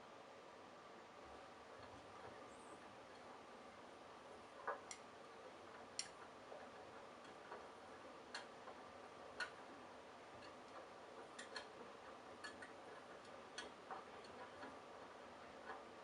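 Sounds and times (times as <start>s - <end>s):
faint steady hum: 0.0s - 16.0s
washing machine clicks and ticks: 1.3s - 16.0s.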